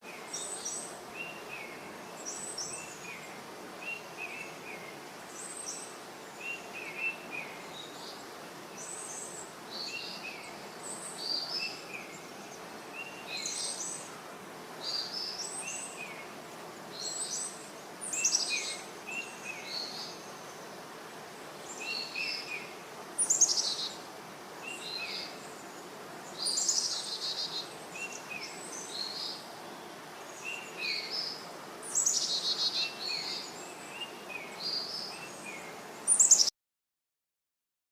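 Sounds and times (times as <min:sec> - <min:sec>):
background hiss: 0:00.0 - 0:36.5
small birds chirping: 0:00.1 - 0:14.2, 0:14.8 - 0:20.8, 0:21.6 - 0:24.0, 0:24.6 - 0:36.5.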